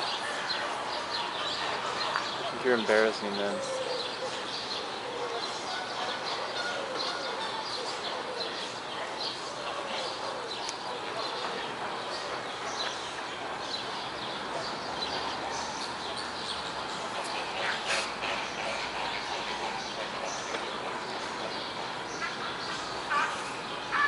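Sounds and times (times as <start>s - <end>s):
distant voices murmuring: 0.0s - 24.0s
small birds chirping: 0.0s - 24.0s.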